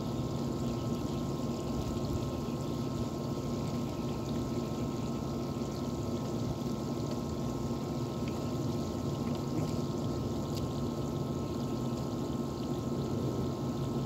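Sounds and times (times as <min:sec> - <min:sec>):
water sloshing in tub: 0:00.0 - 0:14.0.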